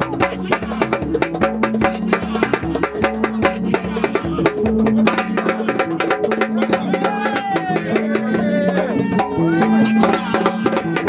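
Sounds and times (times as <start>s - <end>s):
hand drums beating fast rhythm: 0.0s - 11.0s
person singing: 0.0s - 11.0s.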